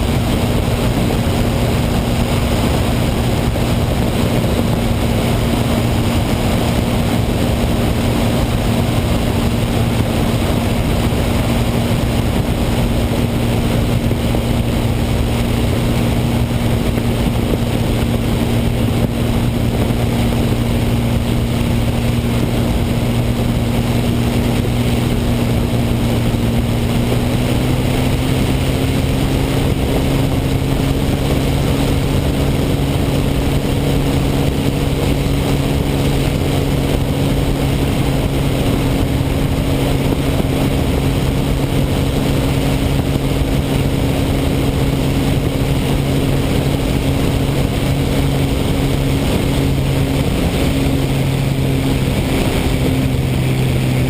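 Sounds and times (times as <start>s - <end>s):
piston aircraft engine drone: 0.0s - 54.0s.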